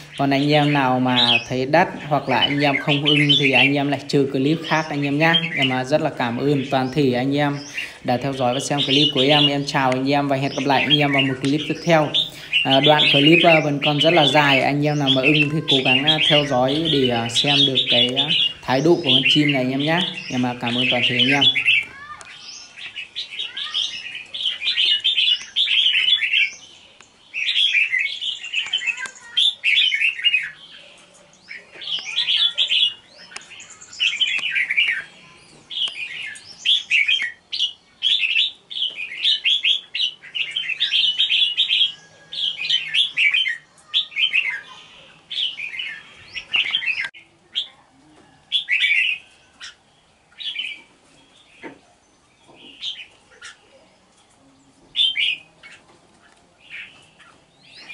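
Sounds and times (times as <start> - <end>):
bird chirping song: 0.0 - 57.9.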